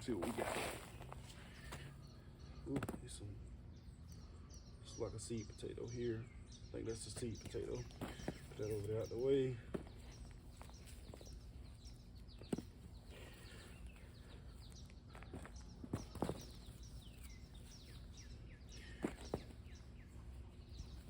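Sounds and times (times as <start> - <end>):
hands sorting through dry soil: 0.0 - 3.4, 6.9 - 21.0
birds chirping: 0.0 - 21.0.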